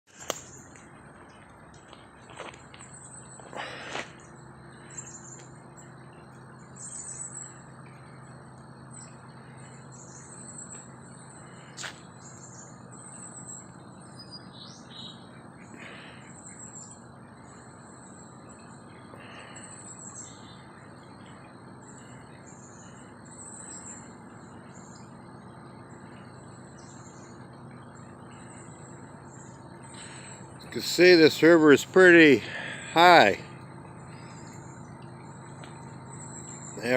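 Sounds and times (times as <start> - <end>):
songbirds chirping: 0.0 - 36.9
faint high whine: 0.1 - 36.9.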